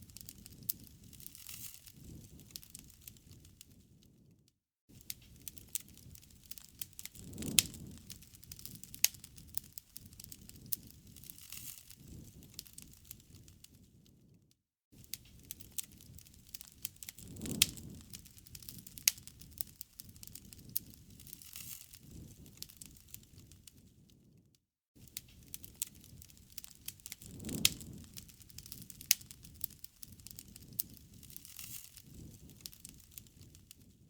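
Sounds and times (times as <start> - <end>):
campfire crackling and popping: 0.0 - 14.4, 15.0 - 24.4, 25.0 - 34.0
low rumble of burning: 0.0 - 34.0.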